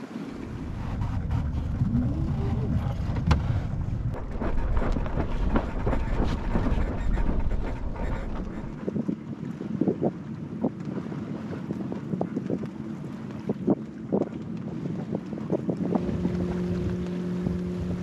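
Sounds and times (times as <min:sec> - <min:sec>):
water splashing at hull: 0:00.0 - 0:18.0
wind rumbling over microphone: 0:00.0 - 0:18.0.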